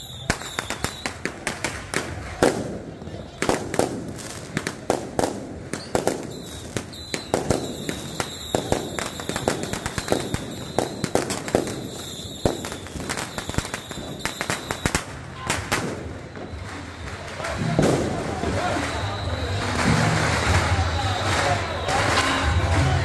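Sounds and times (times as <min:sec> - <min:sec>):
firecrackers cracking and banging: 0:00.0 - 0:23.0.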